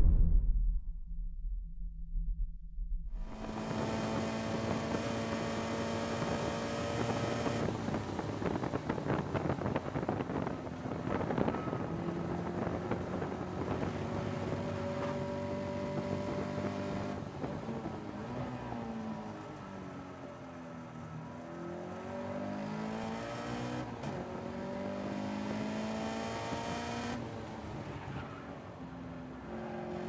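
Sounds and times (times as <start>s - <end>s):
car engine at speed: 2.9s - 30.0s.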